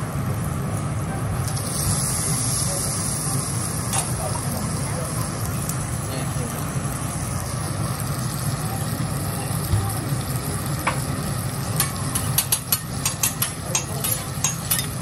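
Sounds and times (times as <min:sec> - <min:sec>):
butter sizzling on a griddle: 0:00.0 - 0:15.0.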